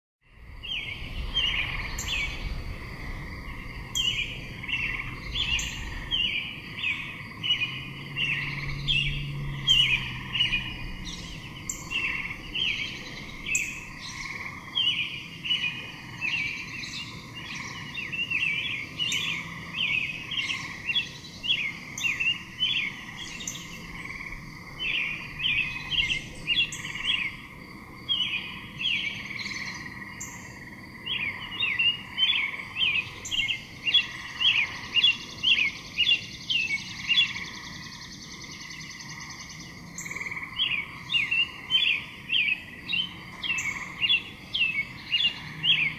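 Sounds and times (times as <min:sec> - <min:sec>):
faint background drone: 0:00.3 - 0:45.9
bird chirping: 0:00.6 - 0:45.9.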